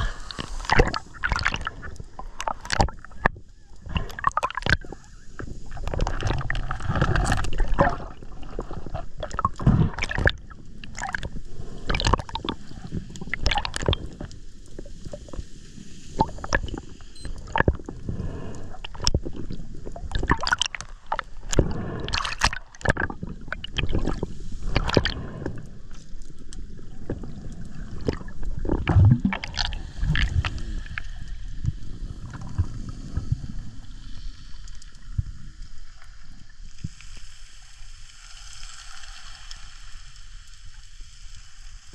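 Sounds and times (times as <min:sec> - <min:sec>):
underwater water rush: 0:00.0 - 0:41.9.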